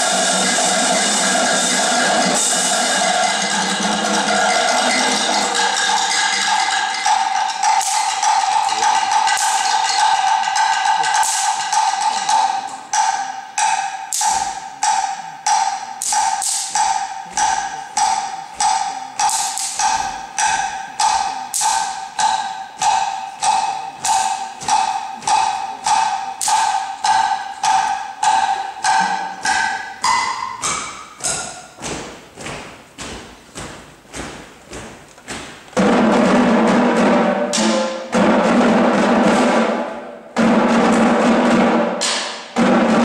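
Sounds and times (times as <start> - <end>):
percussion ensemble beat: 0.0 - 43.0.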